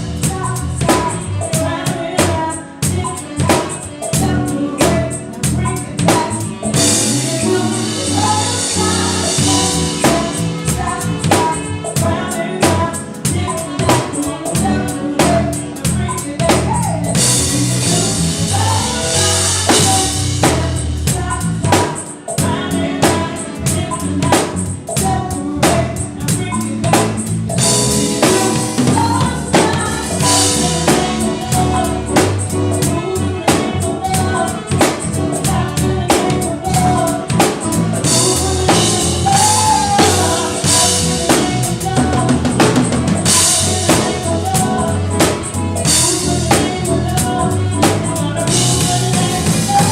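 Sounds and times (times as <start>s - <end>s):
band playing: 0.0s - 49.9s
bass line: 0.0s - 49.9s
drum kit beat: 0.0s - 49.9s
person singing: 0.0s - 49.9s.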